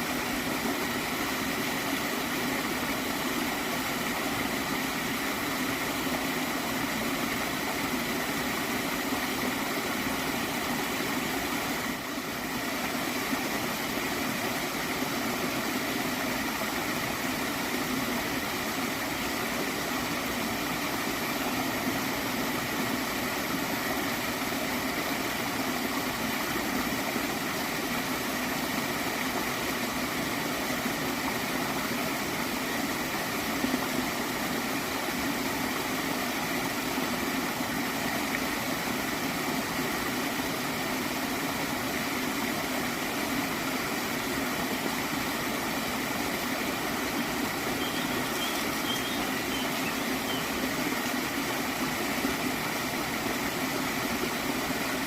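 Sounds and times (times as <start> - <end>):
stream of water flowing: 0.0 - 55.0.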